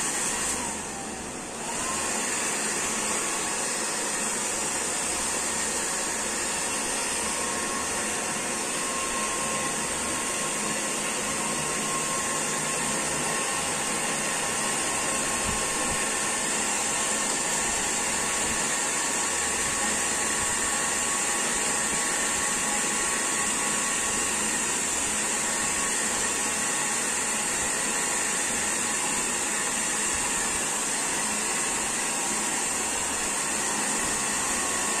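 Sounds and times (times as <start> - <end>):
hair dryer blowing: 0.0 - 35.0.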